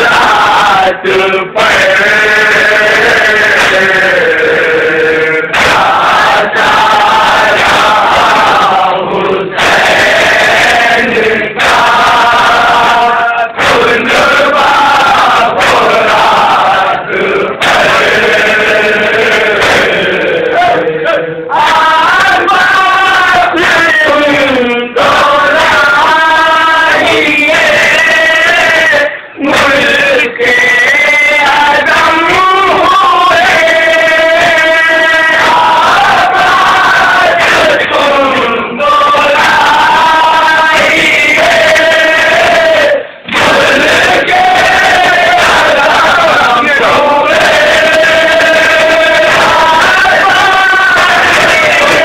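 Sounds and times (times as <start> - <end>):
men chanting in unison: 0.0 - 52.0.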